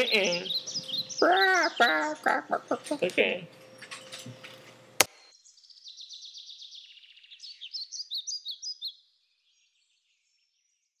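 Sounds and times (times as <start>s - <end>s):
birdsong trills and chirps: 0.0s - 11.0s.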